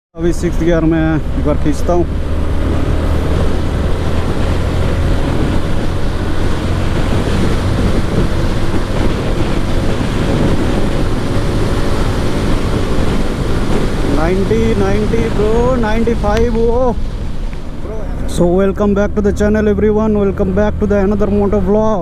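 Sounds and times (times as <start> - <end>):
wind noise on microphone: 2.0 - 22.0.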